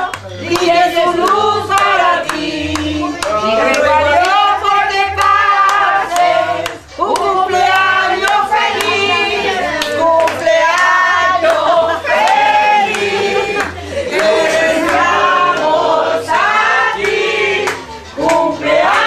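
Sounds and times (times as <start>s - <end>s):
group singing: 0.0s - 19.0s
hands clapping to a beat: 0.0s - 19.0s.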